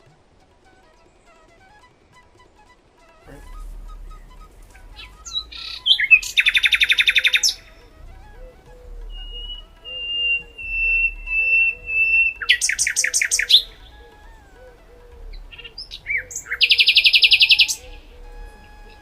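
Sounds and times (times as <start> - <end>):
songbirds whistling and trilling: 0.0 - 19.0.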